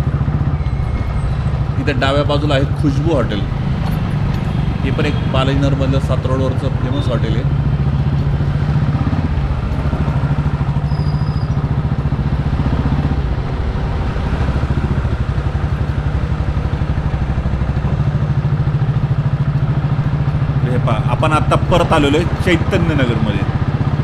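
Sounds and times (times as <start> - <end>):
road and traffic noise: 0.0 - 24.0
small motorcycle engine running: 0.0 - 24.0.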